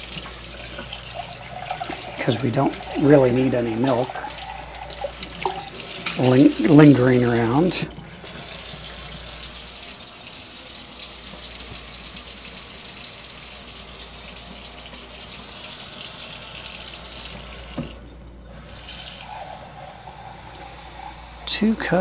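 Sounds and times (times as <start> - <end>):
tap water running into cup: 0.0 - 22.0.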